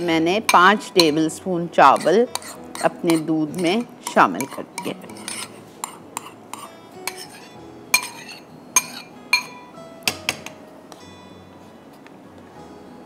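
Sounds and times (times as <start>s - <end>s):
metal spoon clinking on pot: 0.0s - 10.6s
soft background music: 0.0s - 13.0s.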